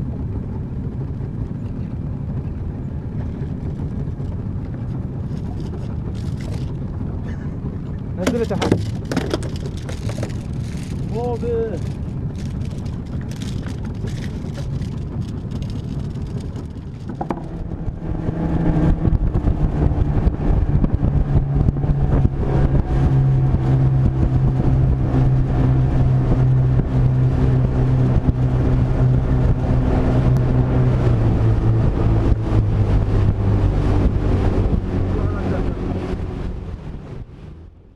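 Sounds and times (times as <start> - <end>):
motorboat engine running: 0.0 - 37.9.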